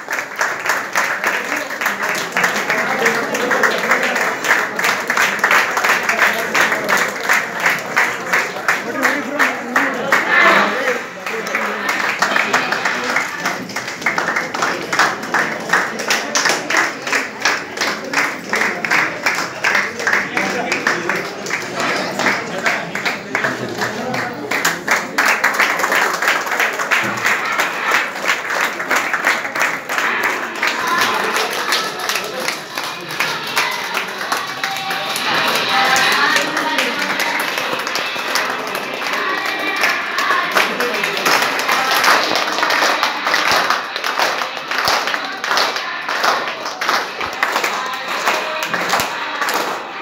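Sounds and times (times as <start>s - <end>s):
crowd applauding: 0.0s - 50.0s
people clapping: 0.0s - 50.0s
voices: 0.7s - 50.0s.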